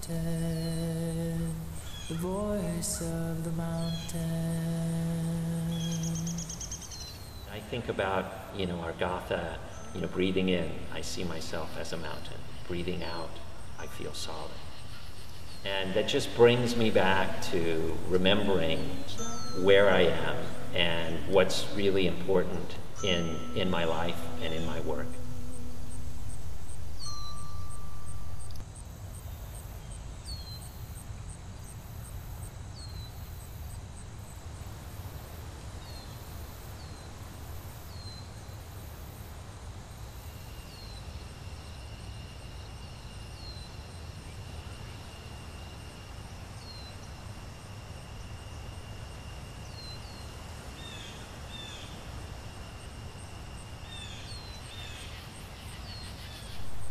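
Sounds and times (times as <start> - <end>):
birds chirping: 0.0 - 39.2, 39.9 - 56.9
crickets and insects trilling: 0.0 - 56.9.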